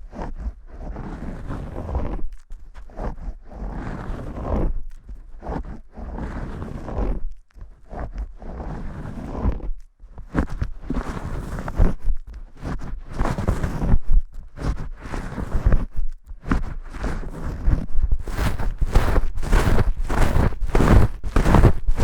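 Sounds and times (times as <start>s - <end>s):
fingers scrubbing lathered hair: 0.1s - 22.0s.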